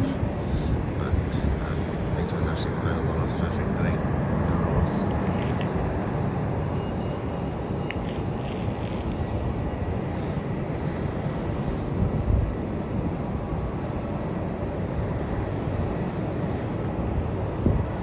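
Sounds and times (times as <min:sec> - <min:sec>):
distant jet engines rumbling: 0:00.0 - 0:18.0.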